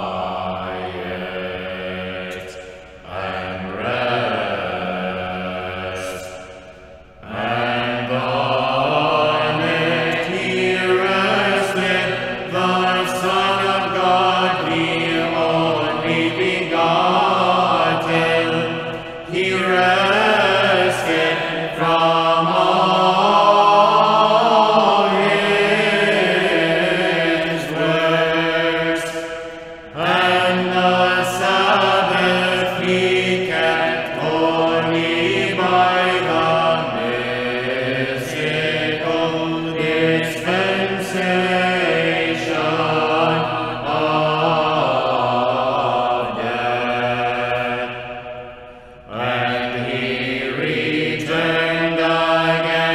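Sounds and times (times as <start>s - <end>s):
choir chanting a hymn: 0.0s - 52.9s.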